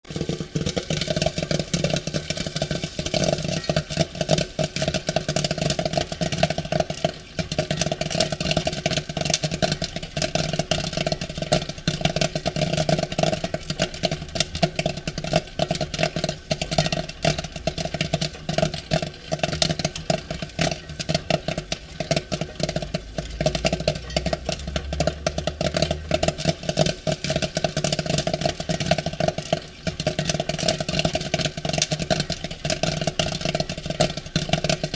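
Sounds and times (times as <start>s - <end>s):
popcorn popping: 0.0s - 34.9s.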